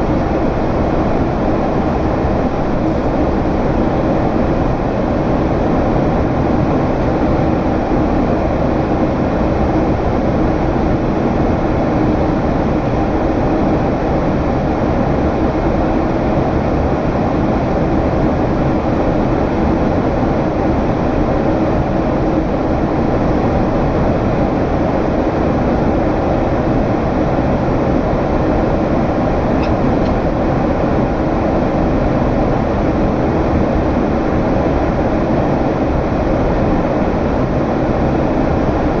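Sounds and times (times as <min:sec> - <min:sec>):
jet engines droning in cabin: 0:00.0 - 0:39.0.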